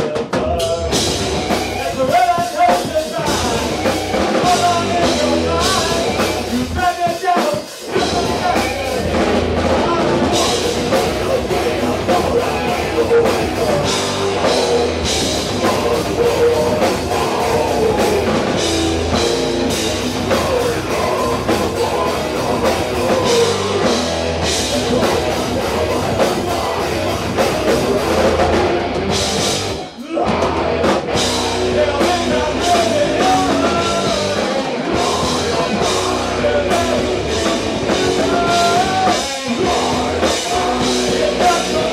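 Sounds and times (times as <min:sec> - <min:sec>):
live punk rock band: 0:00.0 - 0:41.9.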